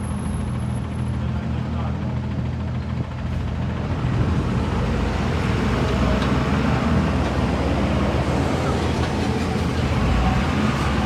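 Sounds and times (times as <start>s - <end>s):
road and traffic noise: 0.0s - 11.0s.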